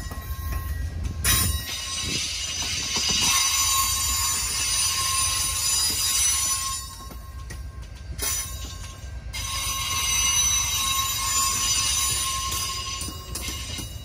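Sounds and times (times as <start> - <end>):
train wheels squealing: 0.0 - 14.0.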